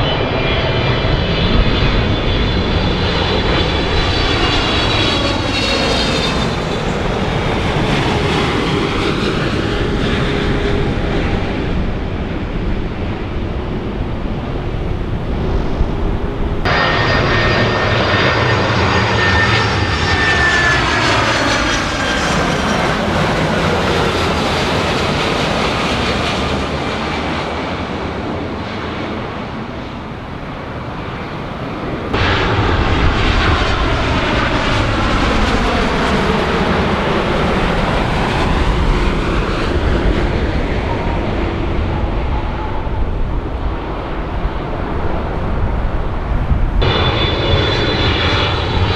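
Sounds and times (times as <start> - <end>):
jet engines passing: 0.0 - 48.9.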